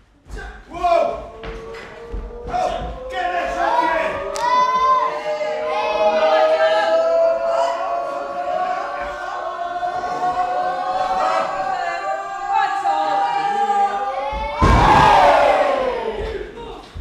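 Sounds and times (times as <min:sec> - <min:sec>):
crowd yelling: 0:00.7 - 0:16.9
crowd oohing: 0:01.0 - 0:16.6.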